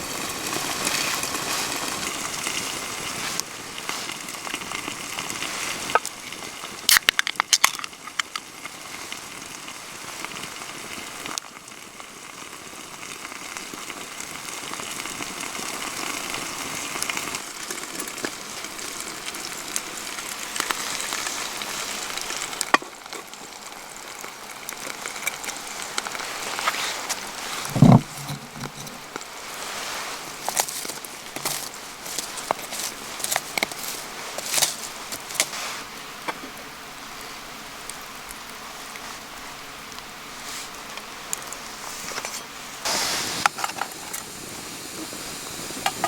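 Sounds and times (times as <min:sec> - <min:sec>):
food sizzling in a pan: 0:00.0 - 0:46.0.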